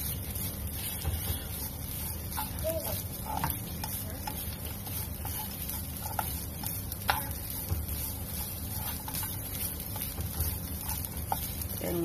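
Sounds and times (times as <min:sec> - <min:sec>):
plastic spatula scraping a pan: 0:00.0 - 0:12.0.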